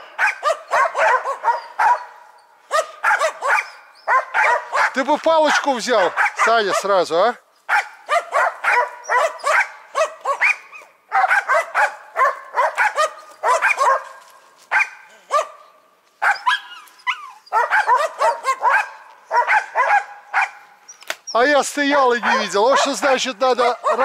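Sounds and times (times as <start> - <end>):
dog barking rapidly: 0.2 - 7.0, 7.7 - 15.6, 16.2 - 16.8, 17.5 - 20.6, 22.1 - 24.0.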